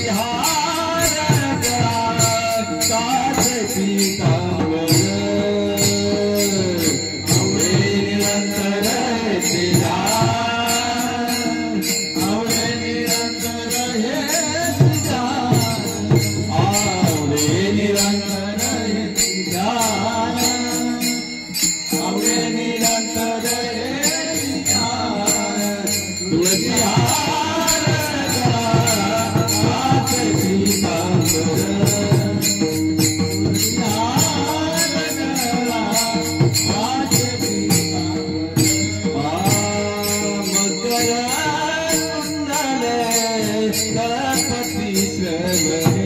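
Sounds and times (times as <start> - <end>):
hand cymbals jingling: 0.0 - 46.0
man singing: 0.0 - 46.0.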